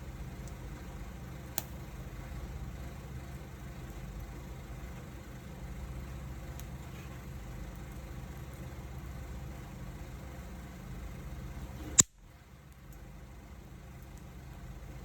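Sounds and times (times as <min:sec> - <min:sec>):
faint fire crackles: 0:00.0 - 0:15.0.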